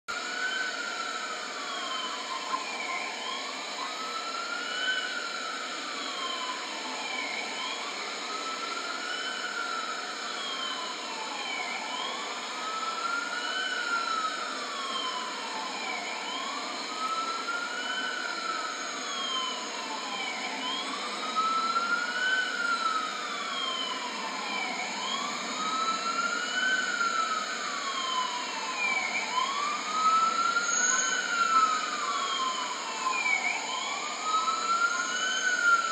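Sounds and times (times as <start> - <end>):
ambulance siren wailing: 0.1 - 35.9.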